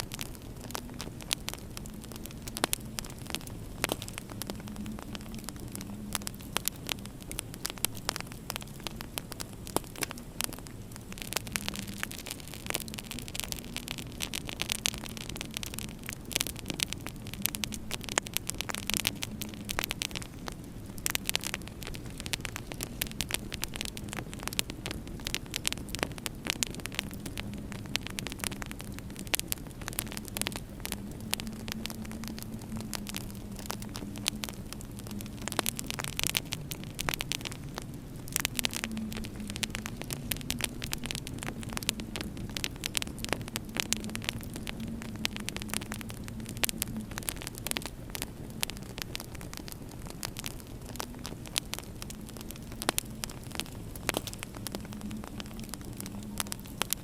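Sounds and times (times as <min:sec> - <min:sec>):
low hum: 0:00.0 - 0:56.9
wood fire crackling: 0:00.0 - 0:57.0.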